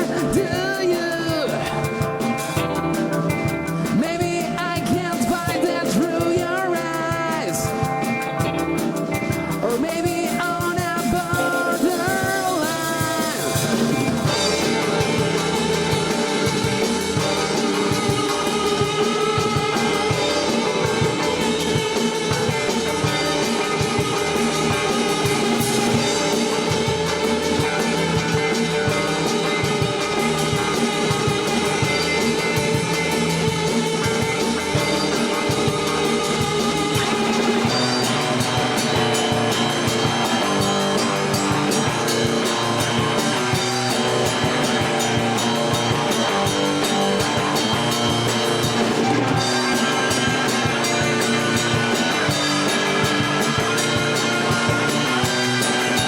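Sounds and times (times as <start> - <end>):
bending melodic line: 0.0 - 56.0
rock band playing live: 0.0 - 56.0.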